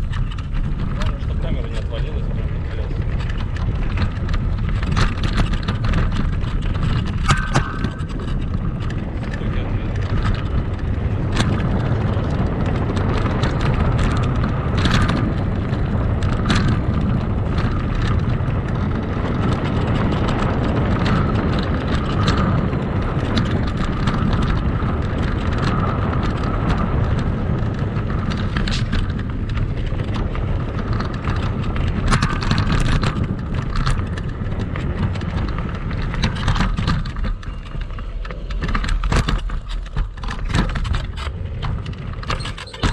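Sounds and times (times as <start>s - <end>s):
parts rattling over bumps: 0.0s - 42.9s
rumble of wind and tyres: 0.0s - 42.9s.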